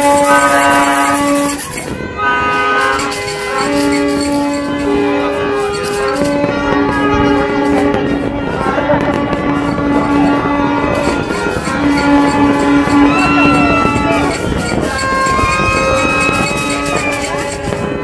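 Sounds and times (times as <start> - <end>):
background din: 0.0 - 18.0
many horns sounding together: 0.0 - 18.0.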